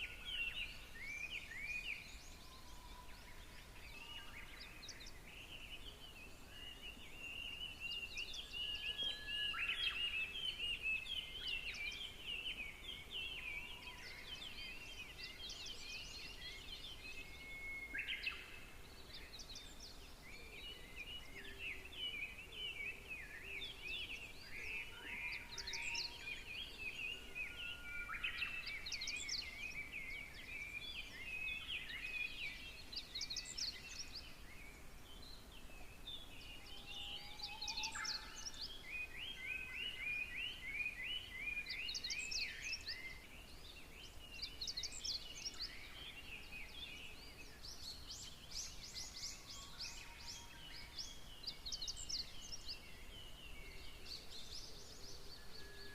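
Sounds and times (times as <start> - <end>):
songbirds twittering: 0.0 - 55.9.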